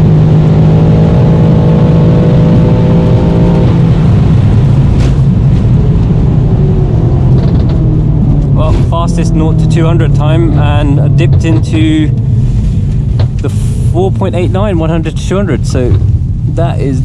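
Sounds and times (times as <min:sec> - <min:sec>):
car engine running: 0:00.0 - 0:17.0
road and tyre rumble: 0:00.0 - 0:17.0.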